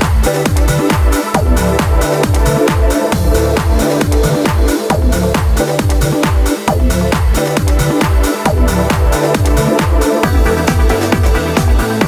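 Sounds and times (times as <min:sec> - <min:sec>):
kick drum beat: 0:00.0 - 0:12.0
sustained synth chords: 0:00.0 - 0:12.0.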